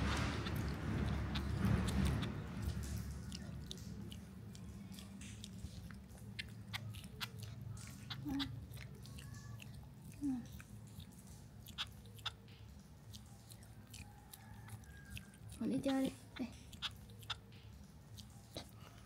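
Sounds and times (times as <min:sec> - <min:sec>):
small animal chewing: 0:00.0 - 0:19.0
wet mouth clicks: 0:00.0 - 0:19.0.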